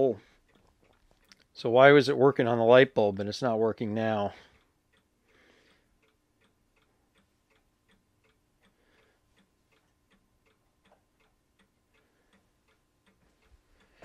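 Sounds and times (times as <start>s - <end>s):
faint regular ticking: 0.0s - 14.0s.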